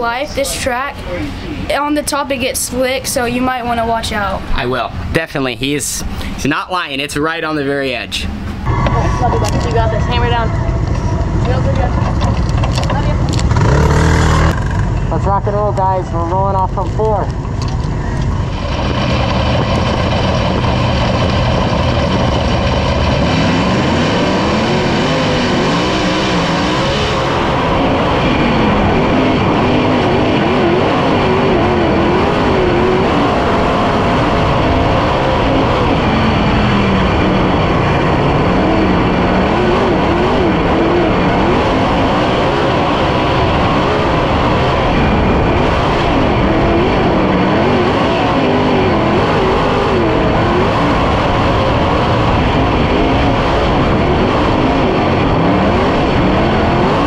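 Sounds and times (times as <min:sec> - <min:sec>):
race car engine revving: 0:06.0 - 0:57.0.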